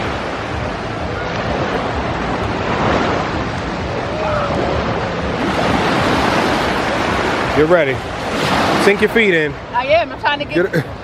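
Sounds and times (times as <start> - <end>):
ocean surf washing: 0.0 - 11.0
wind buffeting microphone: 0.0 - 11.0.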